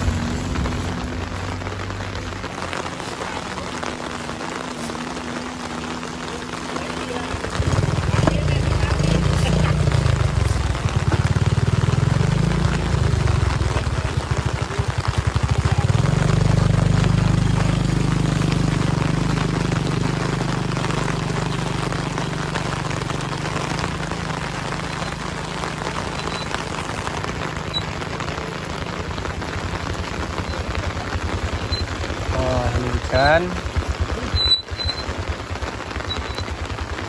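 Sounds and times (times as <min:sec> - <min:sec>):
heavy rain falling: 0:00.0 - 0:37.0
vehicle engine running: 0:00.0 - 0:37.0.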